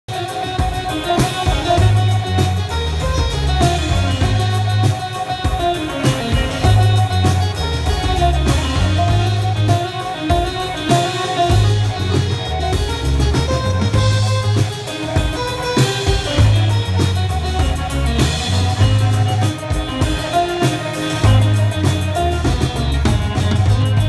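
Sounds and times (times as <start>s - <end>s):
drums: 0.0s - 24.0s
amplified keyboard solo: 0.1s - 24.0s
bass line: 0.6s - 24.0s.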